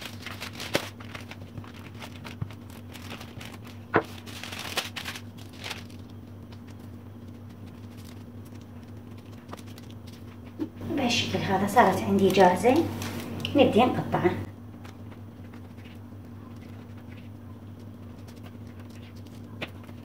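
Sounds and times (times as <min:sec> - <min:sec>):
paper crackles: 0:00.0 - 0:10.7, 0:11.5 - 0:13.8, 0:14.7 - 0:20.0
baking paper crinkling and rustling: 0:00.0 - 0:20.0
steady low hum: 0:00.0 - 0:20.0.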